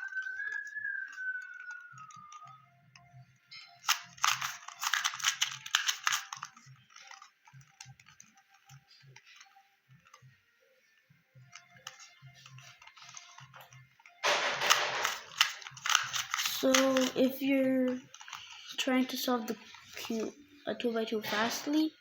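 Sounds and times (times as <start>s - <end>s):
puzzle cube clicking: 0.0s - 10.2s, 11.5s - 20.3s.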